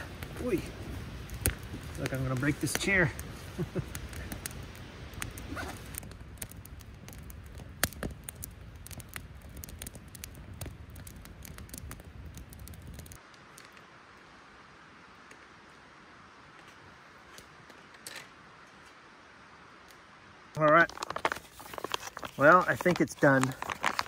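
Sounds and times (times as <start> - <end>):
campfire crackling and popping: 0.0 - 24.0
steady fire hiss: 0.0 - 24.0.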